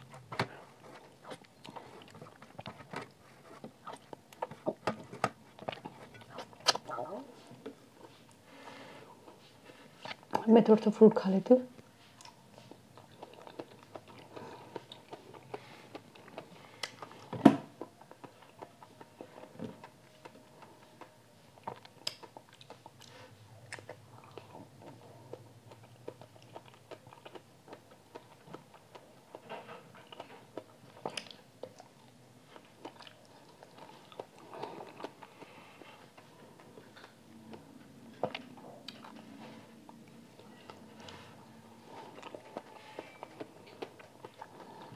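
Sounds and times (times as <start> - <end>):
wet chewing and biting: 0.0 - 7.2, 12.1 - 44.9.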